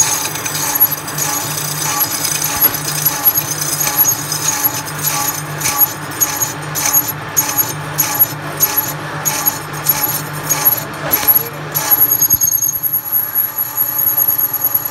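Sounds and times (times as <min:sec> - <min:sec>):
high cutting whine: 0:00.0 - 0:14.9
lathe machine hum: 0:00.0 - 0:14.9.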